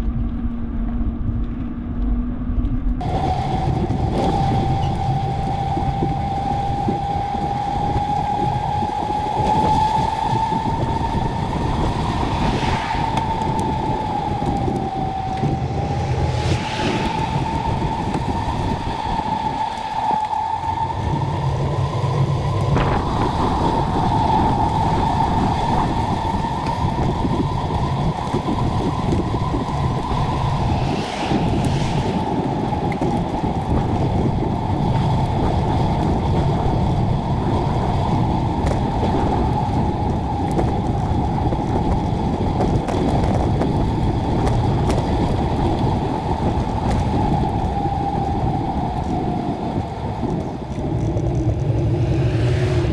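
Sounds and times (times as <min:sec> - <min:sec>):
traffic road noise: 0:03.0 - 0:52.9.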